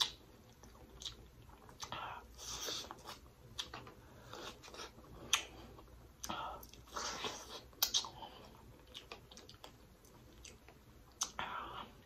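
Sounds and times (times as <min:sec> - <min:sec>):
soft chewing clicks: 0:00.0 - 0:11.6.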